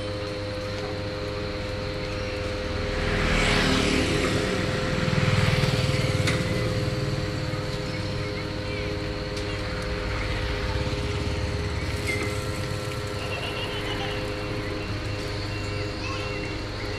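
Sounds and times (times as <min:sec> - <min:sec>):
low engine rumble: 0:00.0 - 0:16.9
steady hum: 0:00.0 - 0:16.9
traffic rushing past: 0:02.1 - 0:16.9.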